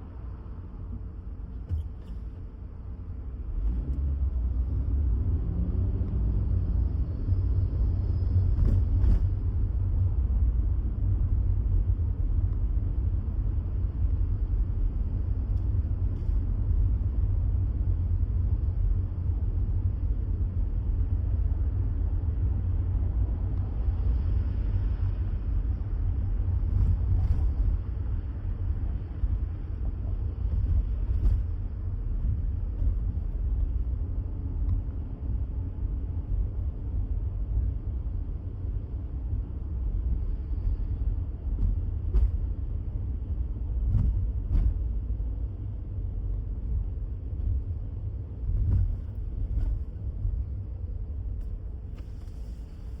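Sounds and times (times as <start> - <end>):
low rumble: 0.0 - 53.0.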